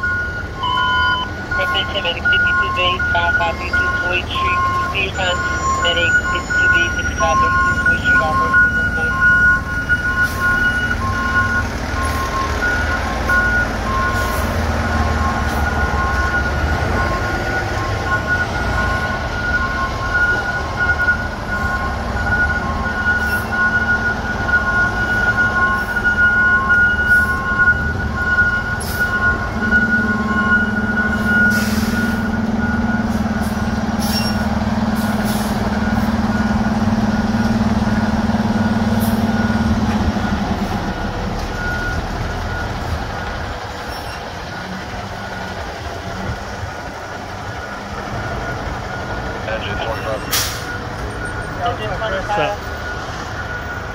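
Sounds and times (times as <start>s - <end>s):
diesel engines running: 0.0s - 53.9s
reversing alarm beeping: 0.0s - 53.9s.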